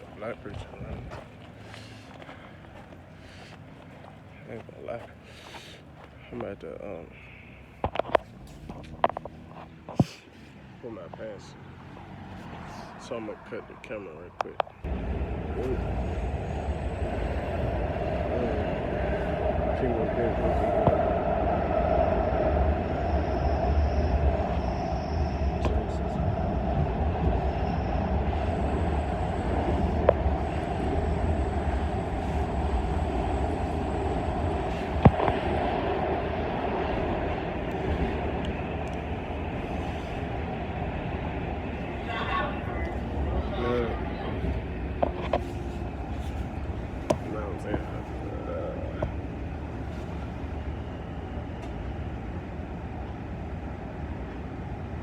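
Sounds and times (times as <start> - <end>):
train rumbling: 0.0 - 10.5, 11.8 - 55.0.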